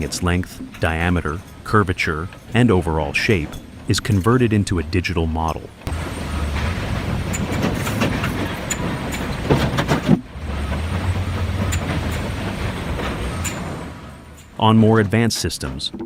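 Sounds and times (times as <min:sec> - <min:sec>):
conveyor machinery rumbling: 0:00.0 - 0:16.0
metallic clanks and knocks: 0:00.0 - 0:16.0.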